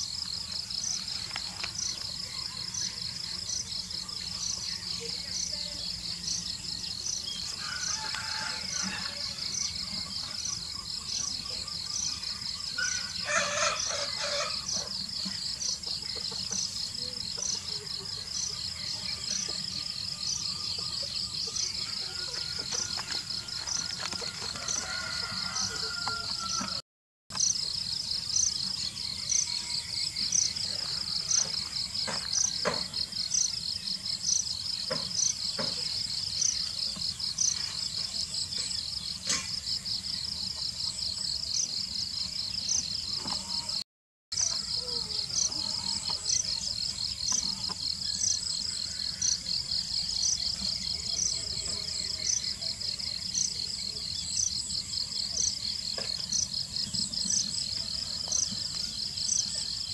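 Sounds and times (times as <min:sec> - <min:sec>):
insects chirping: 0:00.0 - 0:26.7, 0:27.3 - 0:43.8, 0:44.4 - 0:59.9.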